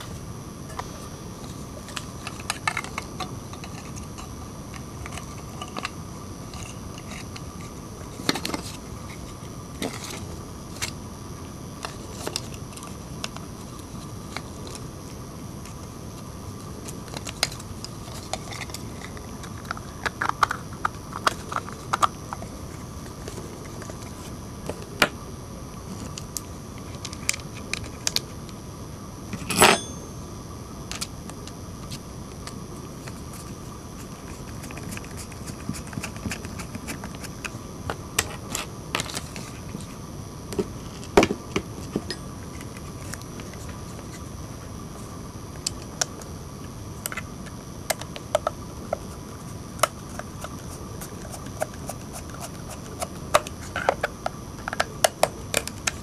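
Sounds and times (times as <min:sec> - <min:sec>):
steady hiss with faint whine: 0:00.0 - 0:56.0.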